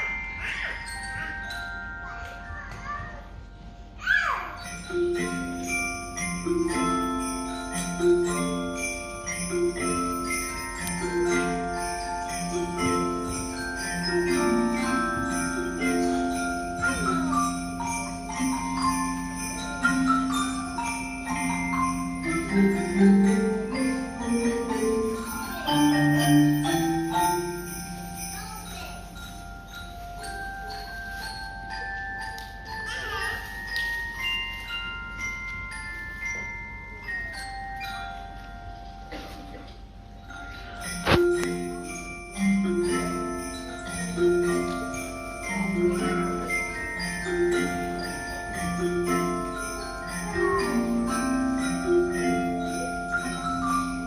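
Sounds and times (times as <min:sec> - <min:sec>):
handbells ringing melody: 0:00.0 - 0:54.0
mallet percussion playing slow tune: 0:00.0 - 0:54.0
school bell: 0:00.0 - 0:54.0.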